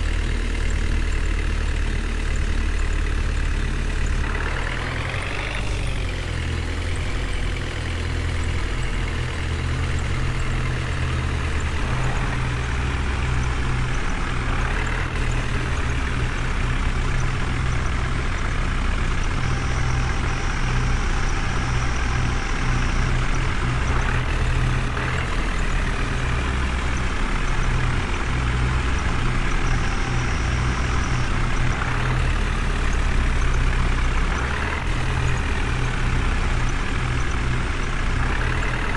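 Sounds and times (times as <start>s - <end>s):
heavy truck engine rumbling: 0.0s - 38.9s.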